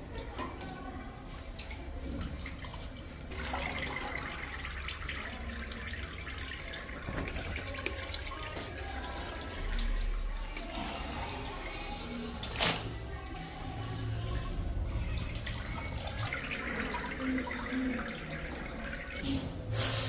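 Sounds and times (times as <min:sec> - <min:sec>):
water splashing and dripping: 0:00.3 - 0:20.0.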